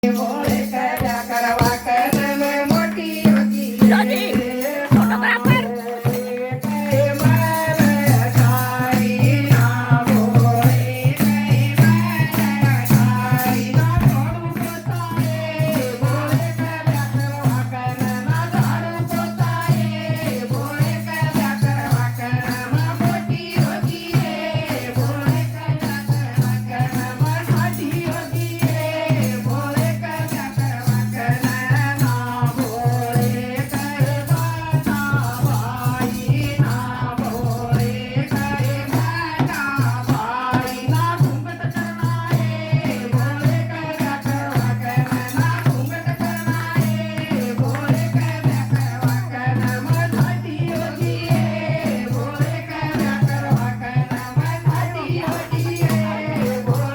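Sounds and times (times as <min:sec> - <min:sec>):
rattle shaking: 0:00.0 - 0:56.9
steady drum beat: 0:00.0 - 0:56.9
woman singing: 0:00.0 - 0:56.9.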